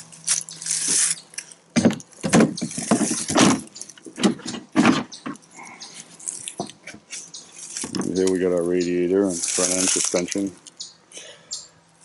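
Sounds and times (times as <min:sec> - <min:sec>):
handling knocks and rustles: 0:00.0 - 0:10.6.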